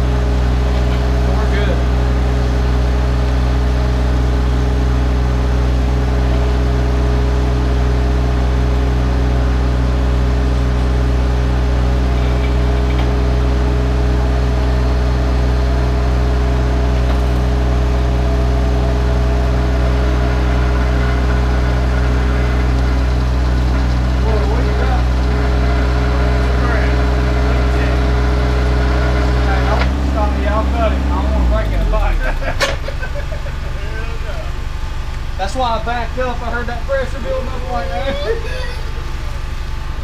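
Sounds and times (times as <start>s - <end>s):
excavator diesel engine drone: 0.0s - 40.0s
steady hum: 0.0s - 40.0s.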